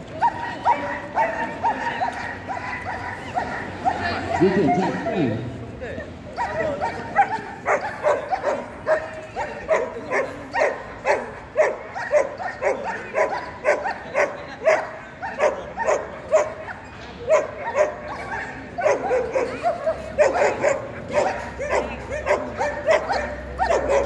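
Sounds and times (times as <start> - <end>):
dog barking: 0.2 - 5.2, 6.4 - 24.0.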